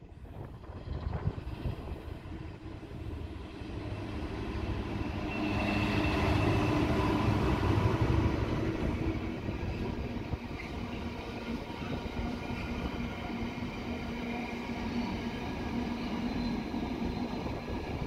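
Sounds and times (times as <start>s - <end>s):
diesel locomotive engine drone: 0.0s - 18.0s
rail rumble: 0.0s - 18.0s.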